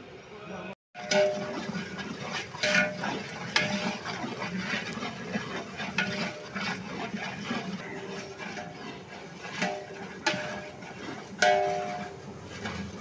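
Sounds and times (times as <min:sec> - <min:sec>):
metal ladle scraping a pot: 0:01.0 - 0:13.0
onions sizzling in hot oil: 0:01.0 - 0:13.0.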